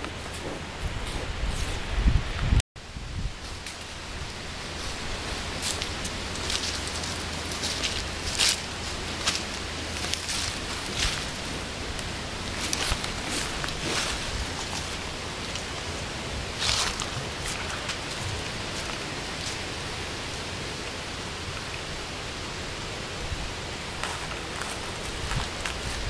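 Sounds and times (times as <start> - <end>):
steady outdoor hiss: 0.0 - 26.0
dry leaves rustling: 3.2 - 21.2, 23.0 - 26.0.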